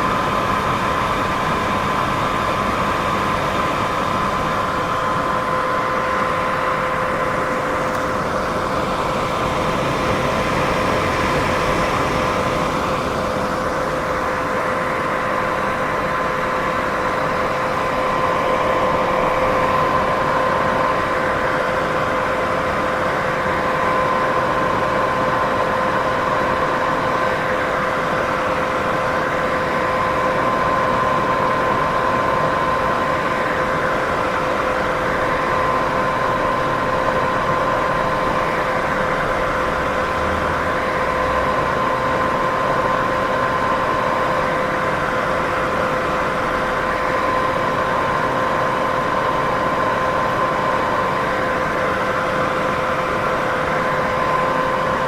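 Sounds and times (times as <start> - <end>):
steady humming tones: 0.0 - 55.0.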